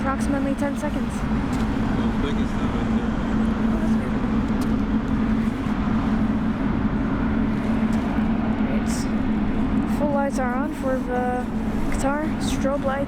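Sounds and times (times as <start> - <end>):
distant jet engines running: 0.0 - 13.0.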